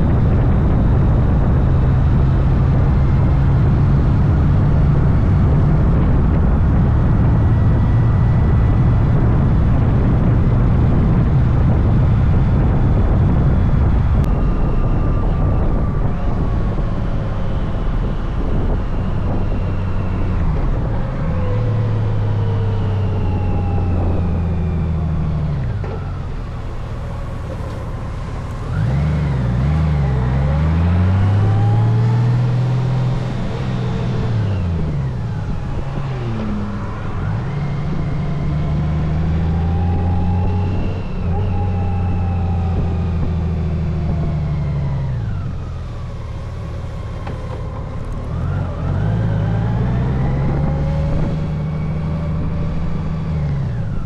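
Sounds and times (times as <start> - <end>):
motorcycle engine accelerating: 0.0 - 54.0
road and wind noise: 0.0 - 54.0.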